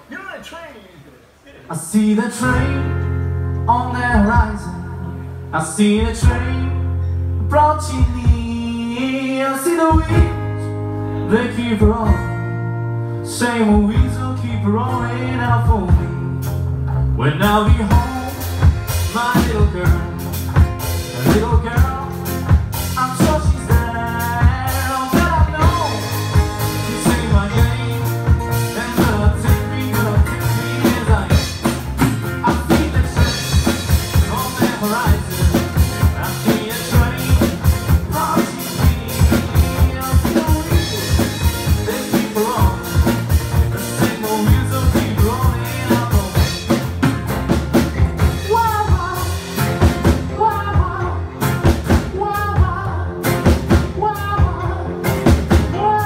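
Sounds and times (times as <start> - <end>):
live rock band: 1.2 - 56.0.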